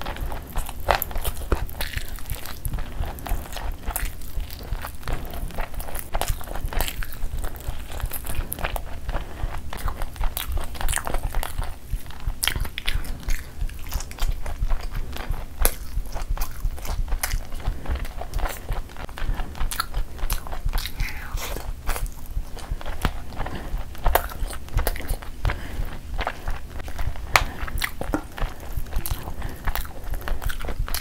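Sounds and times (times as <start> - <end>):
wet chewing and crunching: 0.0 - 31.0.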